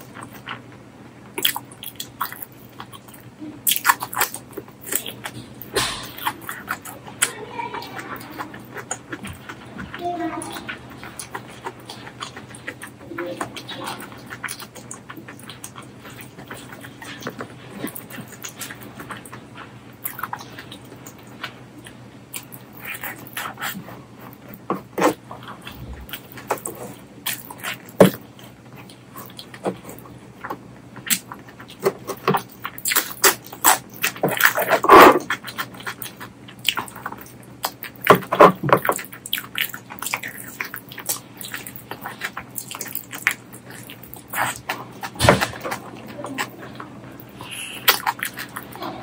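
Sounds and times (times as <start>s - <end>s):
wet chewing and lip smacks: 1.3s - 49.0s.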